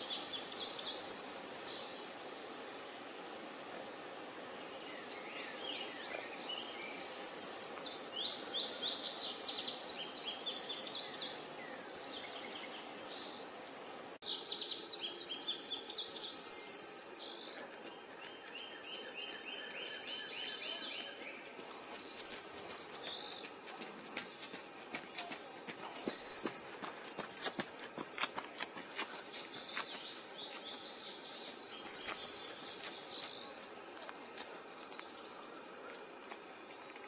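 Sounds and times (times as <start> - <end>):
songbird singing: 0.0 - 2.9, 4.1 - 37.0
steady outdoor hiss: 0.0 - 37.0.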